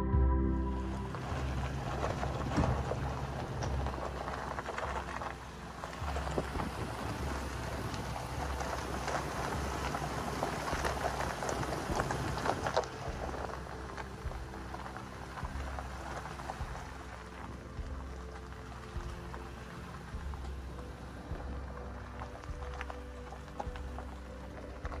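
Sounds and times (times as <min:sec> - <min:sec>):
engine rumble: 0:00.0 - 0:25.0
tyres crunching on gravel: 0:00.7 - 0:25.0.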